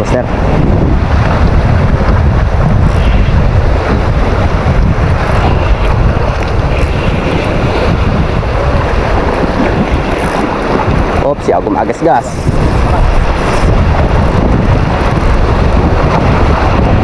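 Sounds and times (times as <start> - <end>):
sea waves washing: 0.0 - 17.0
wind buffeting microphone: 0.0 - 17.0.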